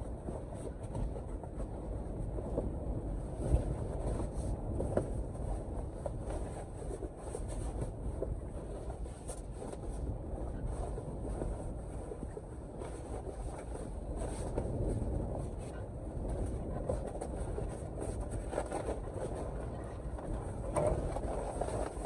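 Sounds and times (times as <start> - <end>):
blizzard wind rumbling: 0.0 - 22.0.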